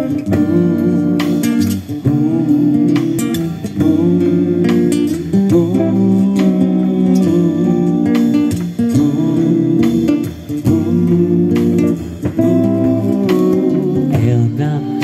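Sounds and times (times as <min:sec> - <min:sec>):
bass guitar: 0:00.0 - 0:15.0
guitar playing chords: 0:00.0 - 0:15.0.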